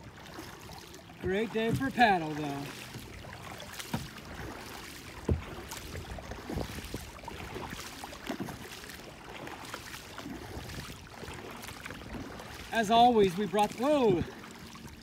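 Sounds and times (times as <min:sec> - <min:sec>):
paddle splashing water: 0:00.0 - 0:15.0
steady water wash: 0:00.0 - 0:15.0.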